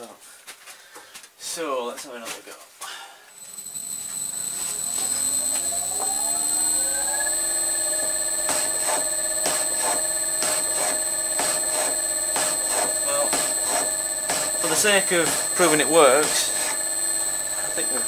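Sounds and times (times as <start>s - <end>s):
milling machine motor whine: 3.4s - 18.0s.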